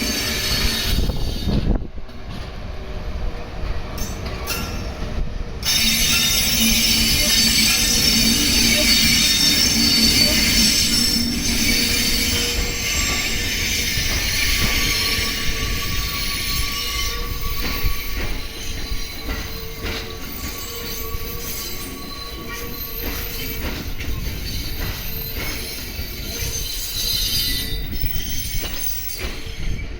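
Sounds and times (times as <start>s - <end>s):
train wheels squealing: 0.0s - 1.8s, 4.0s - 29.9s
train rumble: 0.0s - 29.9s.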